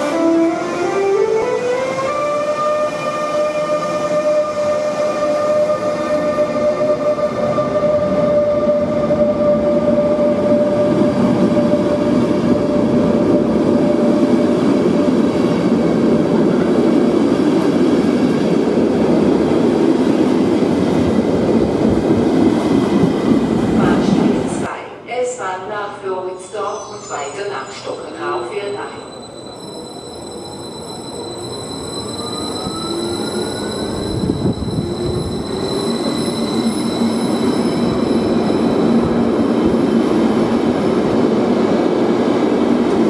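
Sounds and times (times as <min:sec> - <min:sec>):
electric locomotive converter whine: 0:00.0 - 0:22.2, 0:26.4 - 0:43.0
train coaches rumbling past: 0:00.0 - 0:24.8, 0:26.0 - 0:43.0.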